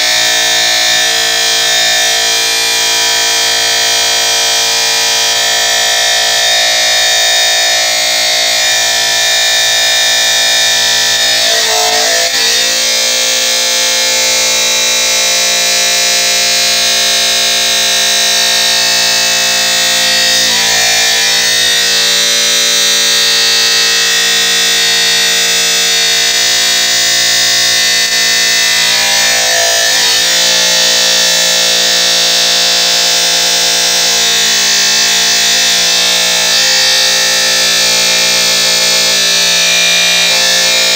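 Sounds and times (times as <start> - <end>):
cut-off disc grinding metal: 0.0 - 40.9.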